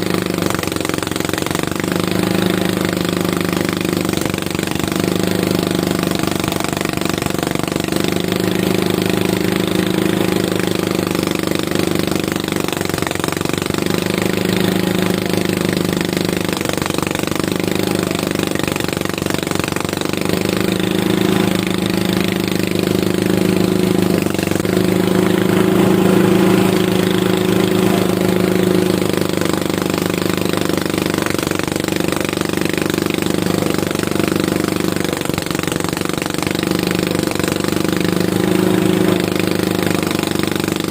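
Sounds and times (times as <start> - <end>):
harvesting machine engine running: 0.0 - 40.9.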